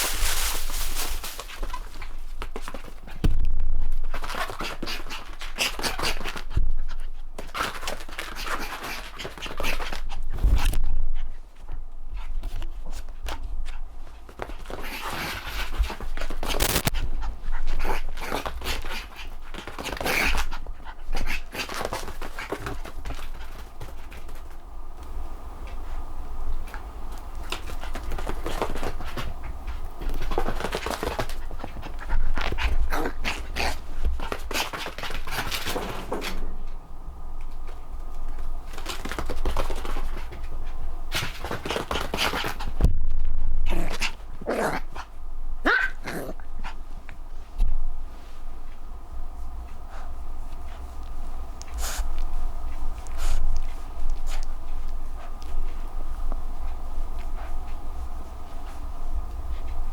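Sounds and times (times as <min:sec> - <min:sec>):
paws scrabbling and scuffling: 0:00.0 - 0:59.9.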